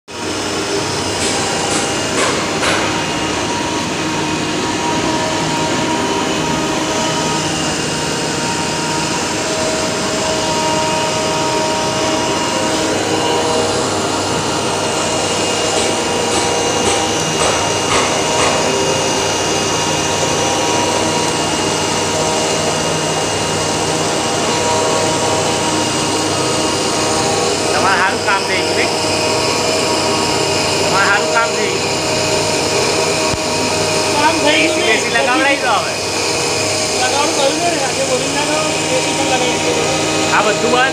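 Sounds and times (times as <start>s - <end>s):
cutting machine rushing noise: 0.1s - 40.9s
motor whine: 0.1s - 40.9s.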